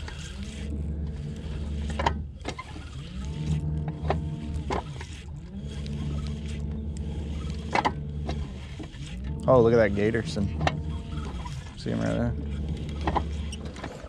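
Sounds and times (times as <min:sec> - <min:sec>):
electric motor humming in spurts: 0:00.0 - 0:14.0.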